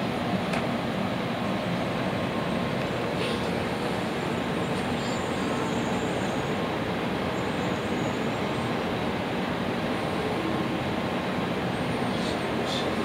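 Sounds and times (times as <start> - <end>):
train cabin rumble and hiss: 0.0 - 13.0.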